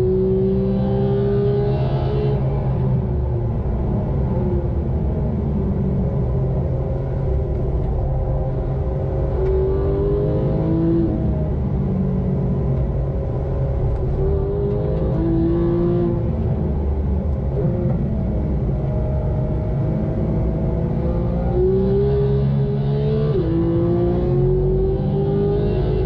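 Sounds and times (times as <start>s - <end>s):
car engine revving: 0.0s - 3.2s, 5.7s - 26.0s
road and tyre rumble: 0.0s - 26.0s.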